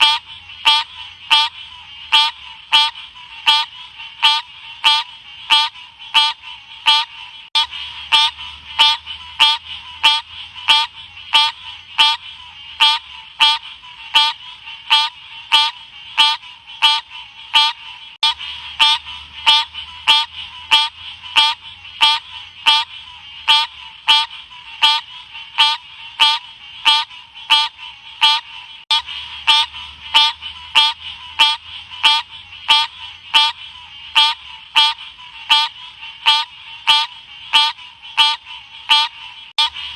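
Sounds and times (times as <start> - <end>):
frog calling: 0.0 - 39.9.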